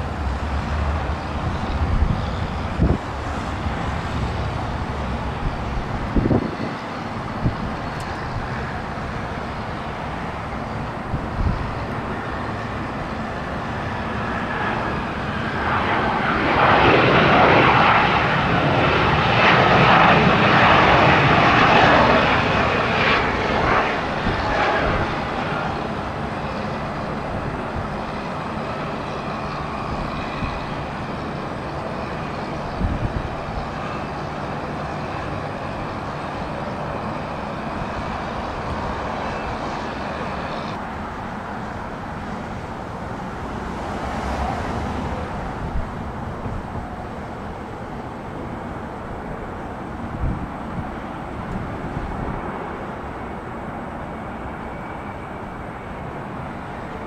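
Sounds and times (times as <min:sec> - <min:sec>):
jet passing with falling whine: 0:00.0 - 0:57.0.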